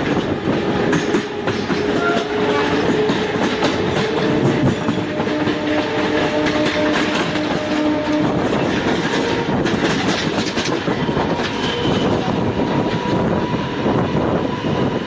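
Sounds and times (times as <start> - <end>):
train wheels clattering: 0.0 - 13.6
wind rushing: 0.0 - 15.0.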